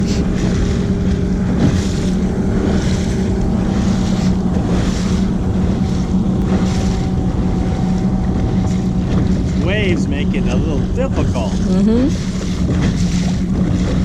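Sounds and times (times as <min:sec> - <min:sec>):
steady low hum: 0:00.0 - 0:14.0
water splashing along hull: 0:00.0 - 0:14.0
wind buffeting microphone: 0:00.0 - 0:14.0.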